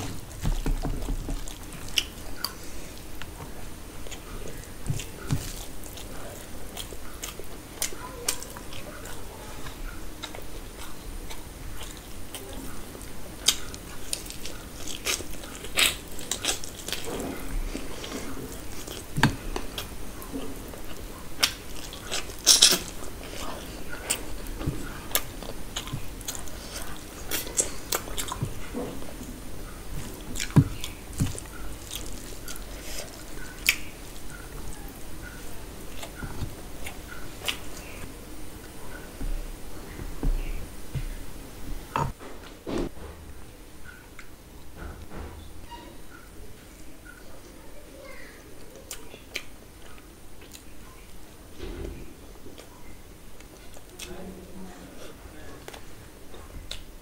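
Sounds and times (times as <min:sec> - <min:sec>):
person chewing food: 0:00.0 - 0:42.5, 0:48.8 - 0:51.2, 0:55.0 - 0:57.0.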